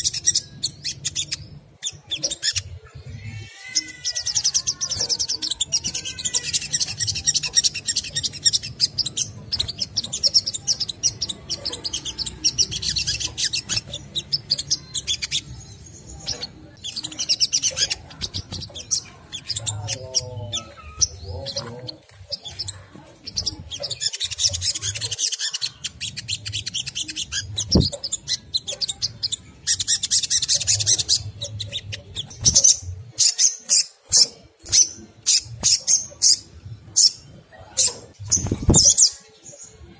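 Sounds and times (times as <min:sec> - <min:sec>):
bird chattering trills: 0:00.0 - 0:39.8.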